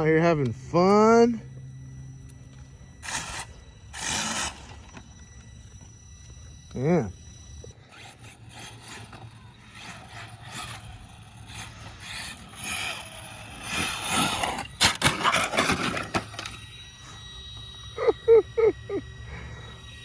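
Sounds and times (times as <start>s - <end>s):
rc truck motor on dirt: 0.0s - 20.0s.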